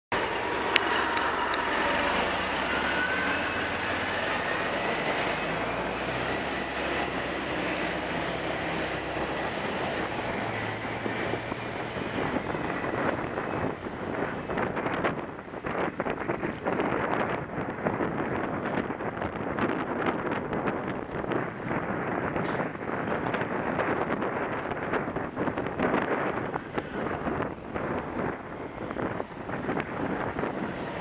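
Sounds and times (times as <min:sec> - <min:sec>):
bus engine and road noise: 0:00.1 - 0:31.0
wind on microphone: 0:00.2 - 0:31.0.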